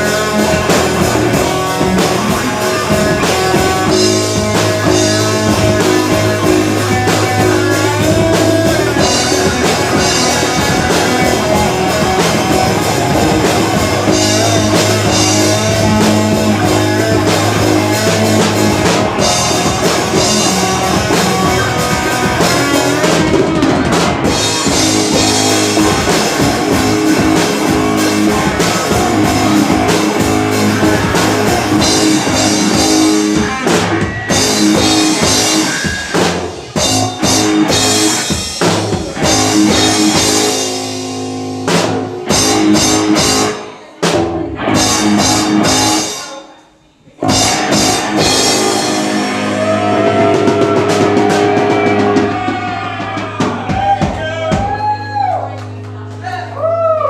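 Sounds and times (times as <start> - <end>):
electric guitar: 0.0 - 46.4, 47.2 - 57.0
drum kit: 0.0 - 56.9.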